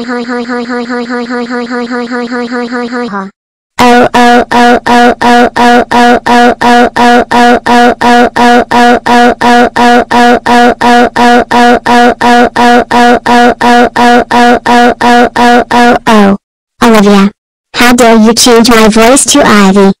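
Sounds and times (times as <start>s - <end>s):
looped voice-like sound: 0.0s - 16.4s.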